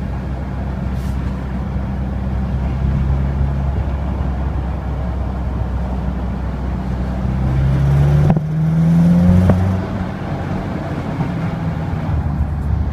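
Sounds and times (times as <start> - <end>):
turbocharged car engine accelerating: 0.0 - 12.9.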